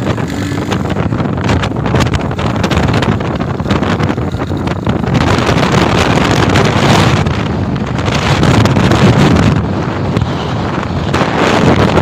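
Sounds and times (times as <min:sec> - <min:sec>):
motorbike running: 0:00.0 - 0:12.0
wind buffeting microphone: 0:00.0 - 0:12.0.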